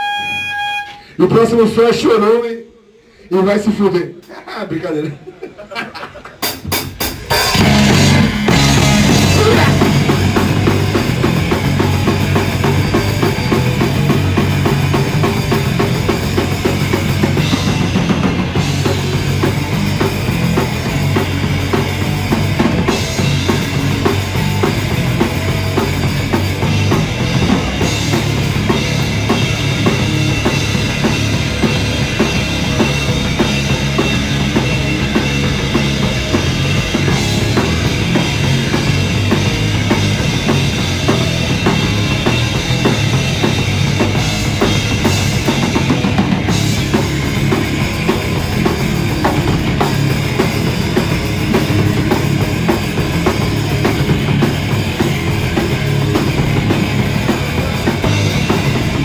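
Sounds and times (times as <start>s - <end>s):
live rock band playing: 0.0s - 1.0s, 6.4s - 59.0s.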